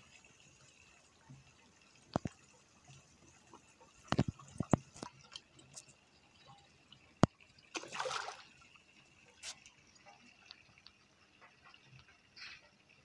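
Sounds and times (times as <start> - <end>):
pond water splashing and dripping: 0.0 - 13.0.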